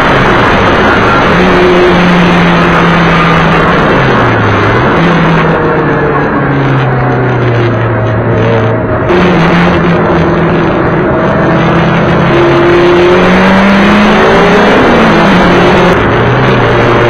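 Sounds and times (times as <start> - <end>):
race car engine under load: 0.0 - 17.0.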